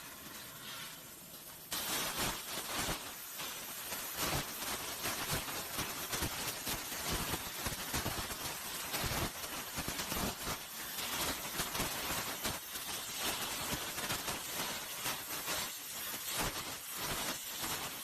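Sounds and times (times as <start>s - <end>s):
plasma torch crackling hiss: 0.0s - 18.0s.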